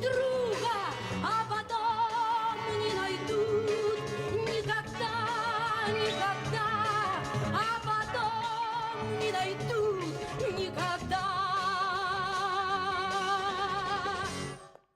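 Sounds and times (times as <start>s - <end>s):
instrumental accompaniment: 0.0s - 14.6s
person singing with vibrato: 0.0s - 14.7s.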